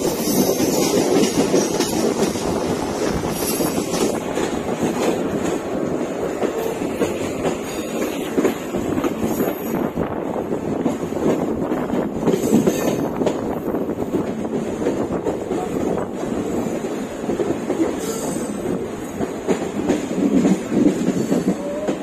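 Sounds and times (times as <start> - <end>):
clickety-clack over rail joints: 0.0 - 22.0
train wheels rumbling on rails: 0.0 - 22.0.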